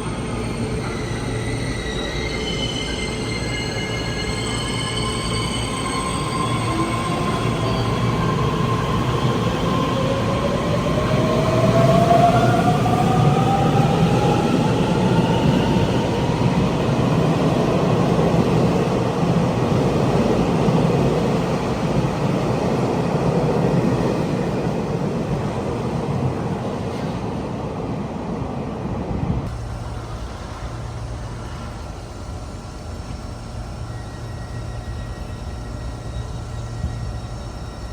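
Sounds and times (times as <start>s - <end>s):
train whine rising in pitch: 0.0s - 22.4s, 29.5s - 37.9s
train rumbling by: 0.0s - 37.9s.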